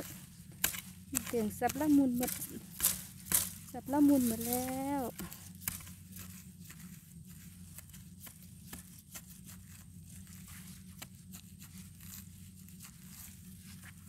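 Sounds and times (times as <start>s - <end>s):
digging tool scraping soil: 0.0s - 14.0s
steady low hum: 0.0s - 14.0s.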